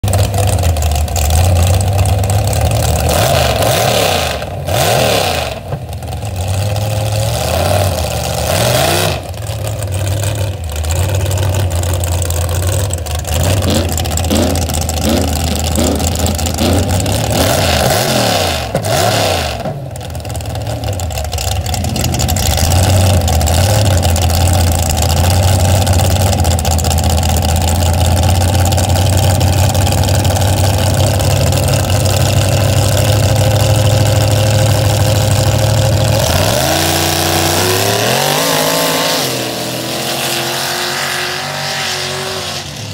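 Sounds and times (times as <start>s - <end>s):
truck engine idling and revving: 0.0s - 42.9s.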